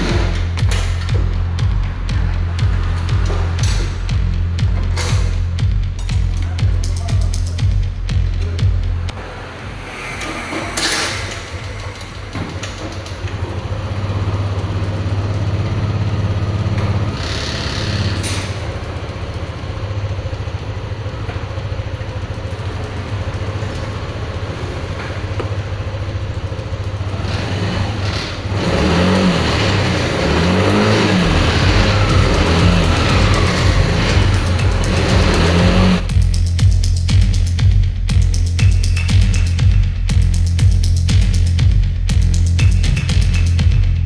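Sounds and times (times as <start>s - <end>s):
scooter engine idling and revving: 0.0s - 44.0s.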